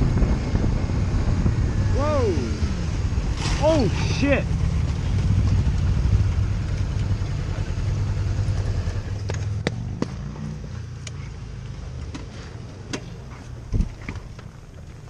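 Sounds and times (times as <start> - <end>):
motorcycle rumble: 0.0 - 15.0
wind: 0.0 - 15.0.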